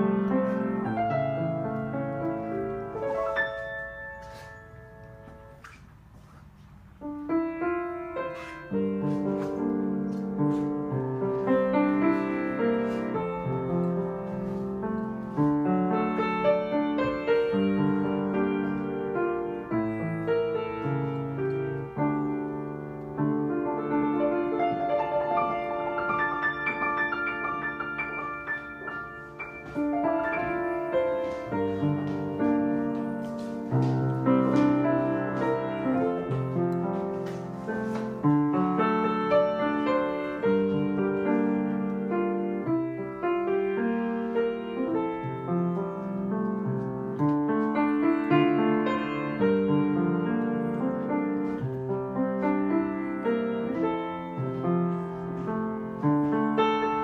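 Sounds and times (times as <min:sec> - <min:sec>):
background piano music: 0:00.0 - 0:06.1, 0:06.8 - 0:57.0.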